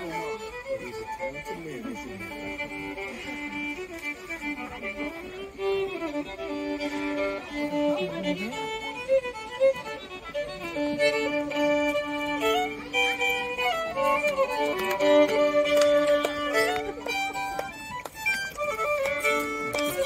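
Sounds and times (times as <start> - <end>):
solo fiddle tune: 0.0 - 20.0.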